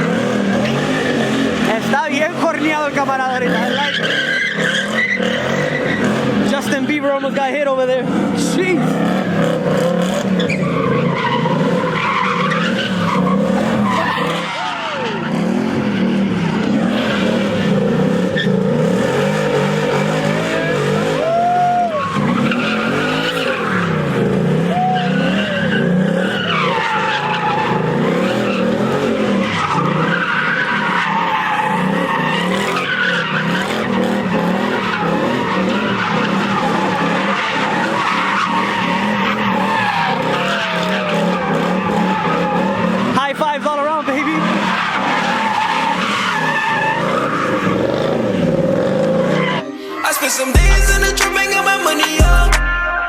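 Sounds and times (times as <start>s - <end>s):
car engine revving: 0.0s - 49.6s
tires squealing: 0.0s - 52.3s.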